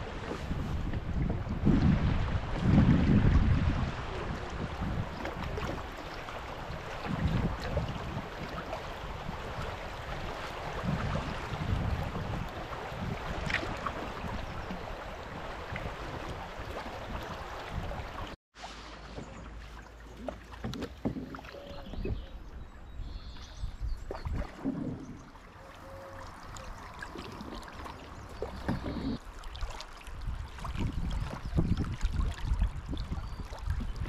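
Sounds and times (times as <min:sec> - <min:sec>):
paddle strokes splashing: 0:00.0 - 0:22.2, 0:24.1 - 0:34.0
water lapping against hull: 0:00.0 - 0:34.0.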